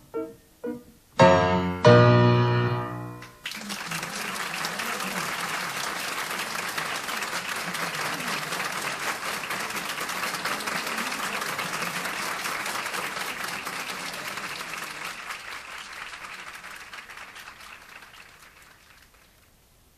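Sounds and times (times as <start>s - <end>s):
audience applauding: 3.4s - 19.6s.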